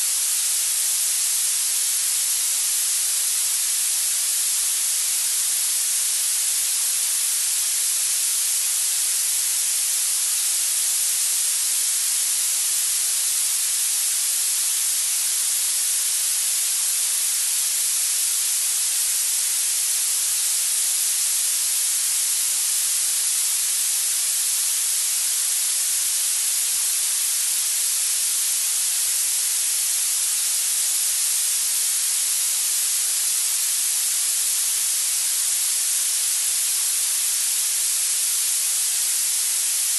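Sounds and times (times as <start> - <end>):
high-pitched electronic hiss: 0.0 - 39.9.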